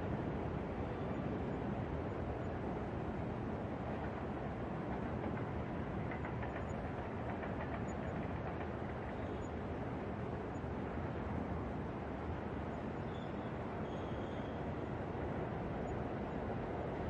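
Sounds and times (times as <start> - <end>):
low rumble of city traffic: 0.0 - 17.0.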